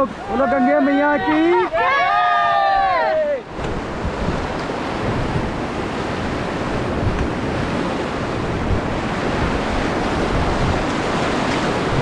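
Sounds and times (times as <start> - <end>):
rushing white water: 0.0 - 12.0
wind buffeting microphone: 1.2 - 12.0.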